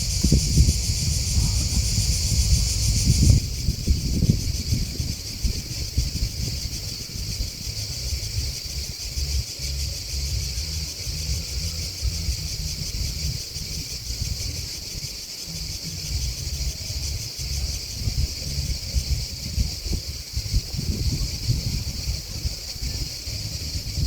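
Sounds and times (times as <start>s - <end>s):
insects chirping: 0.0s - 24.0s
wind rumble on microphone: 0.0s - 24.0s.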